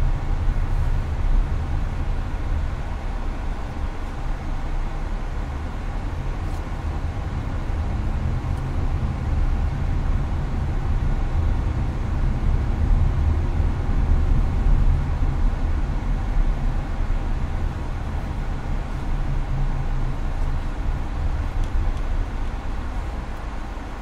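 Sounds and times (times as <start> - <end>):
air conditioner blowing: 0.0 - 24.0
car cabin road noise: 0.0 - 24.0.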